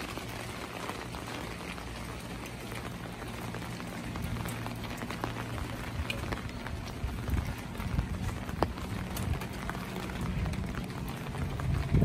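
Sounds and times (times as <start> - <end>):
light rain on wet pavement: 0.0 - 12.0
low steady hum: 0.0 - 12.0.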